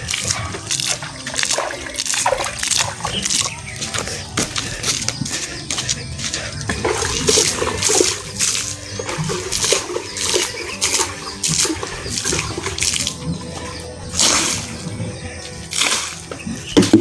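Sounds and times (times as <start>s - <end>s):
water splashing in gushes: 0.0s - 17.0s.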